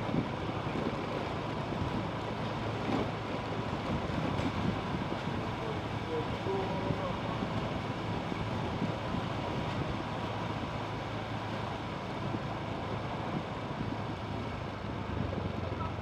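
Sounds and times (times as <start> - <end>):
street traffic: 0.0 - 16.0
wind on microphone: 0.0 - 16.0.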